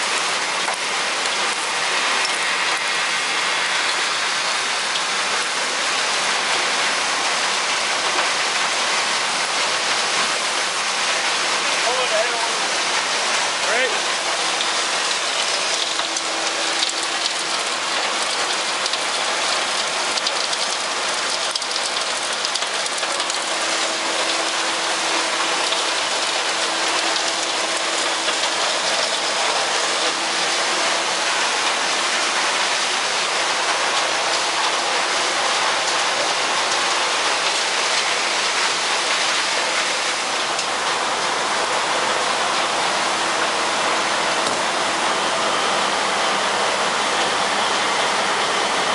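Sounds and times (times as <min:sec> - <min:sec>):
wood chips pouring hiss: 0:00.0 - 0:48.9.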